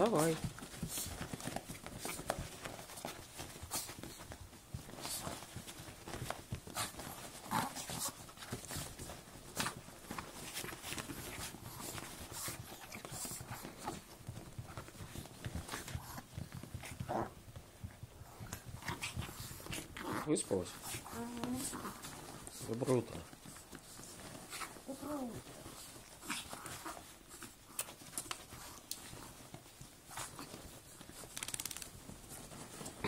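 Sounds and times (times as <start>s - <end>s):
bedding rustling: 0.0s - 33.0s
puppies snuffling and scrambling: 0.0s - 33.0s.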